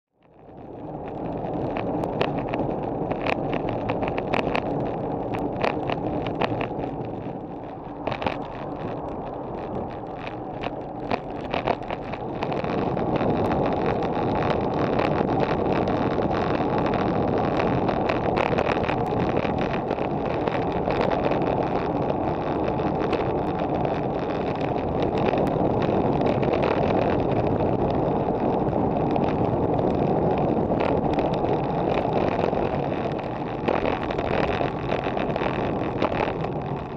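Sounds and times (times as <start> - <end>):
tyre and road noise: 0.2 - 36.9
wind on microphone: 0.2 - 36.9.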